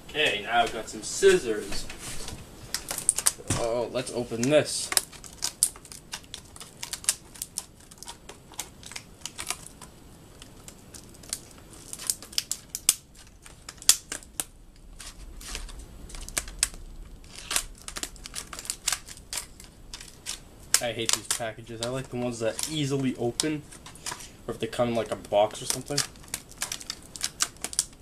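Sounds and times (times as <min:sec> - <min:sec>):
plastic crinkling: 0:00.5 - 0:28.0
scissors snipping plastic: 0:02.8 - 0:28.0.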